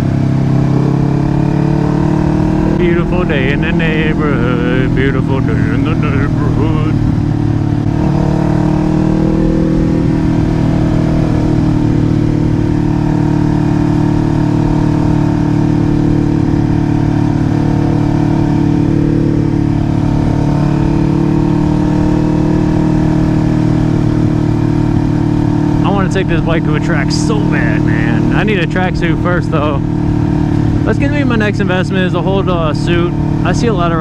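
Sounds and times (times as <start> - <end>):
motorcycle engine running steadily: 0.0 - 34.0.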